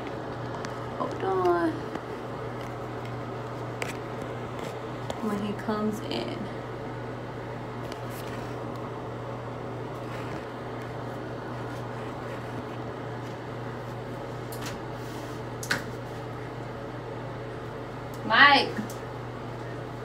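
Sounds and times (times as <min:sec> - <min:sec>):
mechanical room hum: 0:00.0 - 0:20.0.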